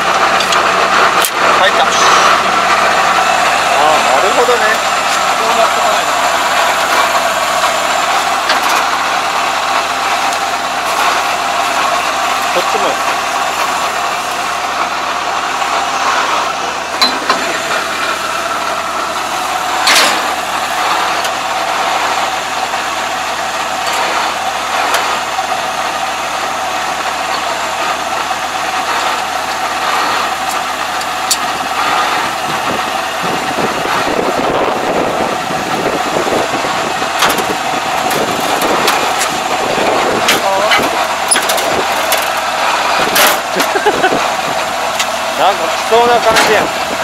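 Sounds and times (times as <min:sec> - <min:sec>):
combine harvester engine running: 0:00.0 - 0:47.0.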